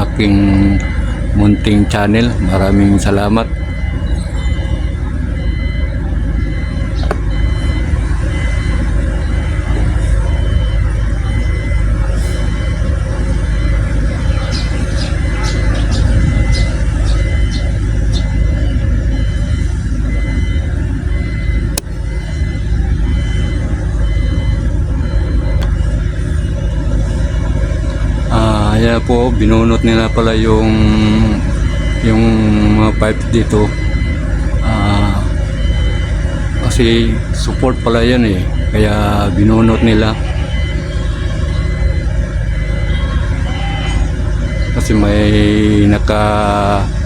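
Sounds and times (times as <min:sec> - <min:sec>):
road traffic rumble: 0:00.0 - 0:47.0.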